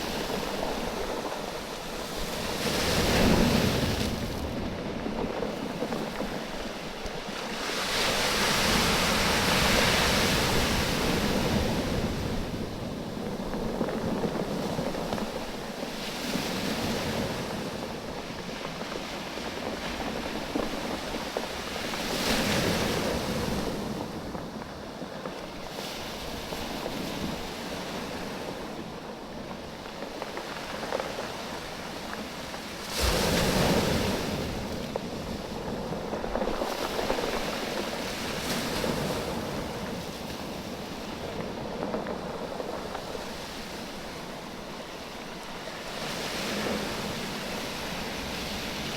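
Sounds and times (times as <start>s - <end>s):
waves washing over stones: 0.0s - 48.9s.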